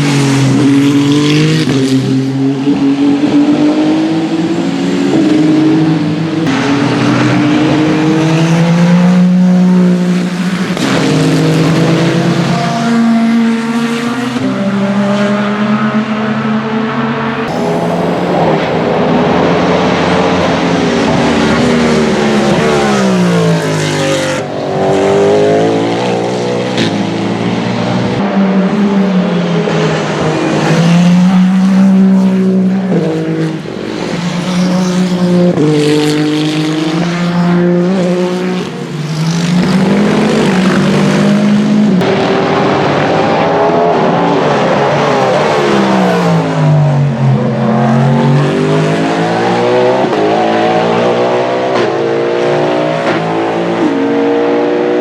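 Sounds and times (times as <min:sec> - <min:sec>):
race cars passing: 0:00.0 - 0:55.0.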